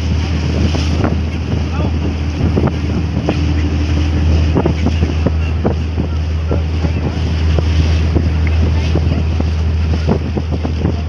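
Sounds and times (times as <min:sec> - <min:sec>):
ferry engine drone: 0:00.0 - 0:11.0
wind rushing over microphone: 0:00.0 - 0:11.0.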